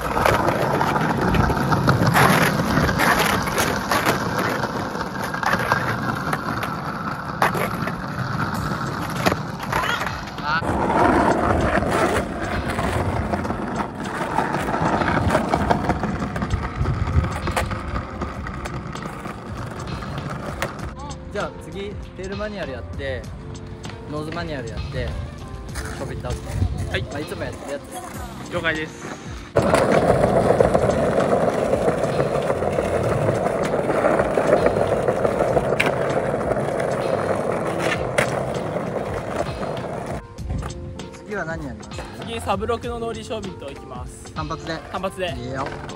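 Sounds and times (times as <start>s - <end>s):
skateboard clacking on ground: 0.0s - 22.8s, 23.8s - 45.9s
skateboard wheels rolling on stone: 0.0s - 23.2s, 23.8s - 45.9s.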